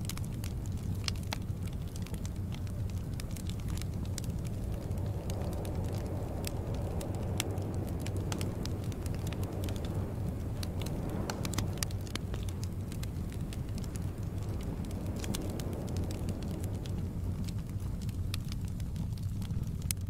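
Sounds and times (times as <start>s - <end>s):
fire pops and snaps: 0.0s - 20.0s
wood fire crackling: 0.0s - 20.0s.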